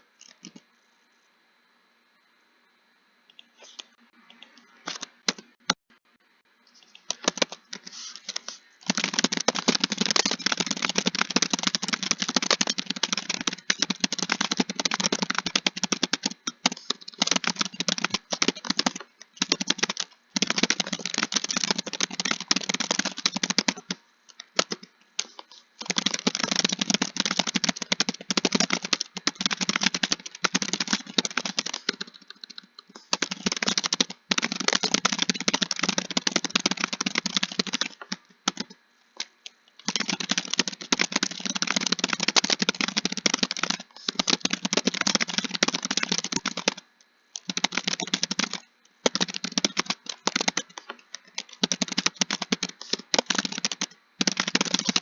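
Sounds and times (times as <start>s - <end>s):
typing on computer keyboard: 6.9s - 55.0s.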